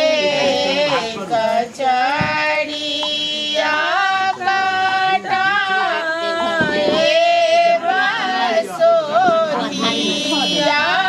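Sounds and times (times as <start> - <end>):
voices singing devotional song: 0.0 - 11.0.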